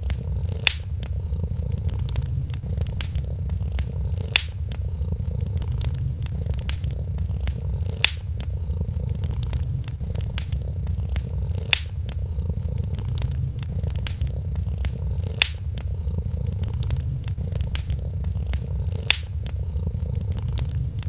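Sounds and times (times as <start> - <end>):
cat purring: 0.0 - 21.0
sharp fire pops: 0.0 - 21.0
wood fire crackling: 0.0 - 21.0.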